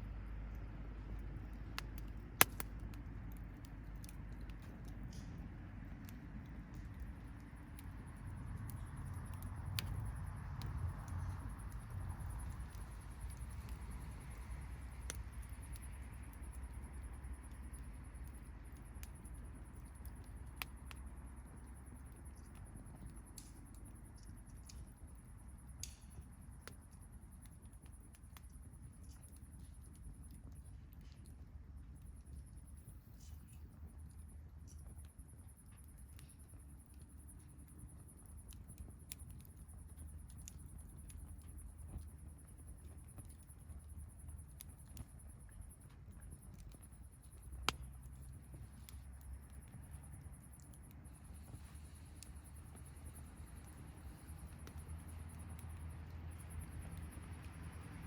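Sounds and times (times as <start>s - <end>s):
low rumble of flames: 0.0s - 58.0s
campfire crackling and popping: 0.4s - 58.0s.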